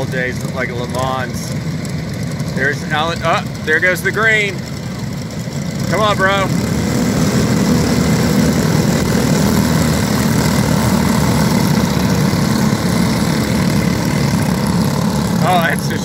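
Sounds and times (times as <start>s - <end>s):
kart engines droning: 0.0s - 16.0s.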